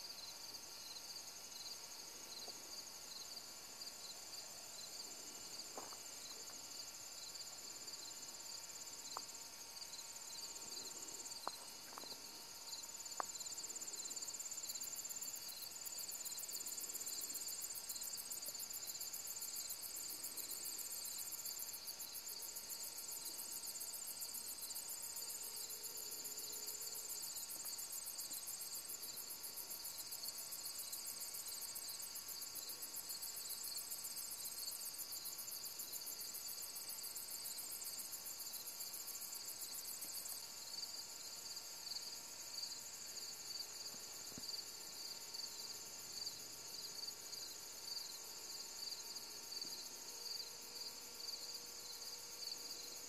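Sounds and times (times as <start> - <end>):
crickets and insects trilling: 0.1 - 53.0.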